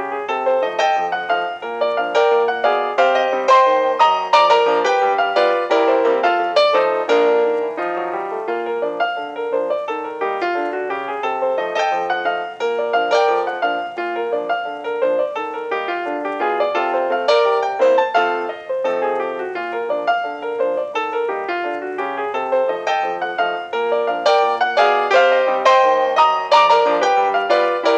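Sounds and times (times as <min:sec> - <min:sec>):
piano music: 0:00.0 - 0:27.9.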